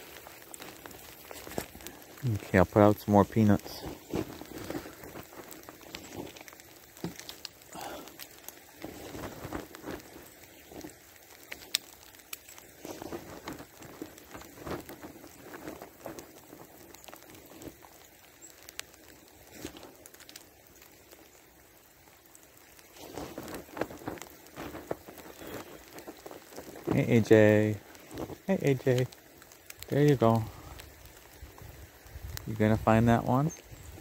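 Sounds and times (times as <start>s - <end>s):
rustling: 0.0s - 21.4s, 22.0s - 34.0s
sleet pattering: 0.0s - 34.0s.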